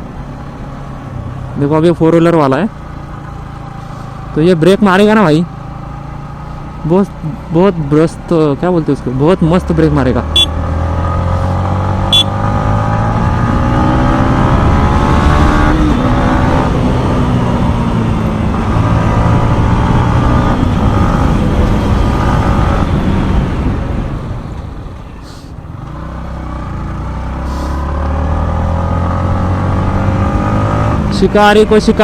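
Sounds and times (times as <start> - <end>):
motorcycle engine shifting gears: 2.7 - 32.0.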